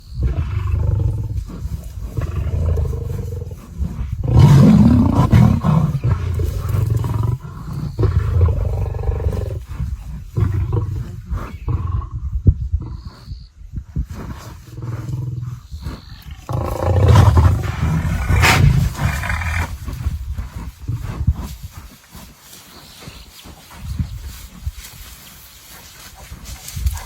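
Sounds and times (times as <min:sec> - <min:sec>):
lions roaring and snarling: 0:00.0 - 0:13.3, 0:14.0 - 0:22.5.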